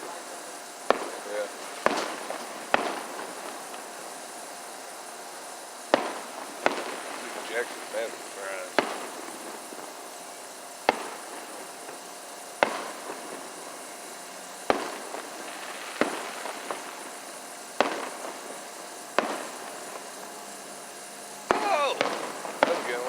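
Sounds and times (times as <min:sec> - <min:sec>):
fireworks bangs with echo: 0:00.0 - 0:23.0.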